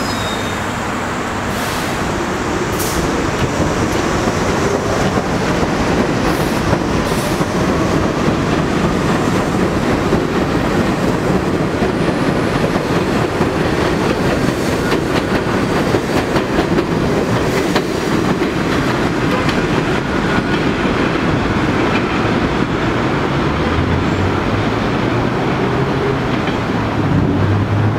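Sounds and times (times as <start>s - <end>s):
subway train rumbling past: 0.0s - 27.9s.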